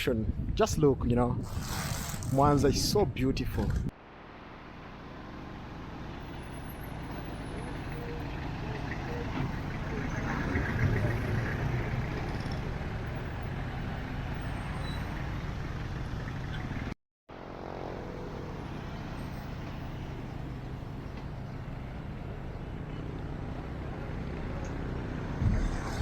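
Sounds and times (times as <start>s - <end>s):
city street traffic: 1.4s - 26.0s.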